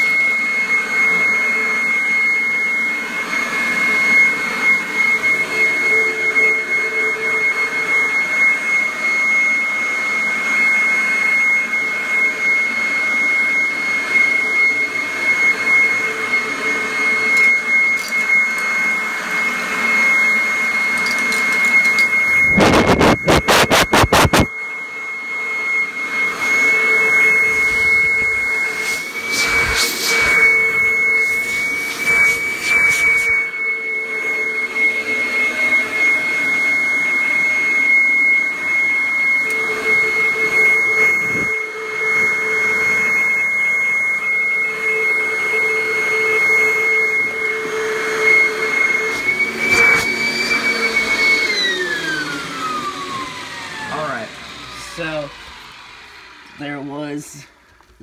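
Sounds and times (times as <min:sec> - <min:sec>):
vacuum blower whining: 0:00.0 - 0:58.0.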